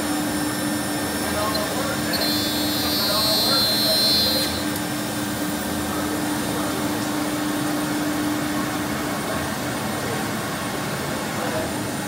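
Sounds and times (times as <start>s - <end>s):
cnc router rushing noise: 0.0s - 12.0s
steady machine hum: 0.0s - 12.0s.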